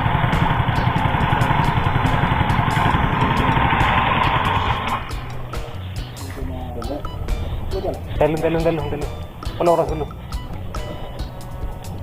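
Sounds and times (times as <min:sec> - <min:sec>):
scooter engine running: 0:00.0 - 0:06.2, 0:07.0 - 0:12.0.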